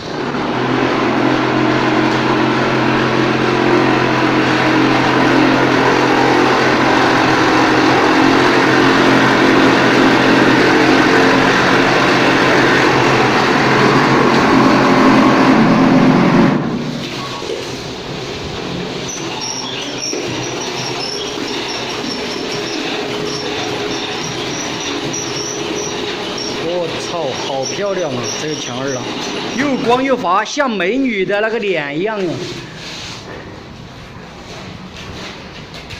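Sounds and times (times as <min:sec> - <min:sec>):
motor hum: 0:00.0 - 0:31.5.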